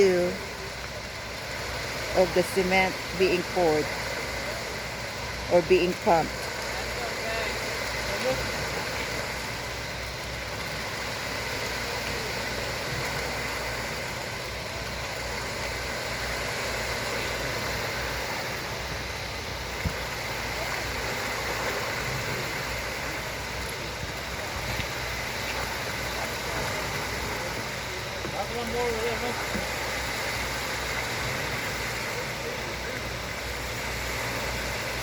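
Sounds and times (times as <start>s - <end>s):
concrete pump running: 0.0s - 35.0s
truck engines droning: 0.0s - 35.0s.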